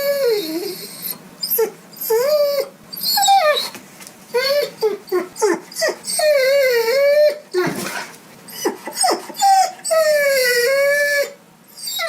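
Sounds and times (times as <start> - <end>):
dog whining: 0.0 - 12.0
dog yelping: 0.0 - 12.0.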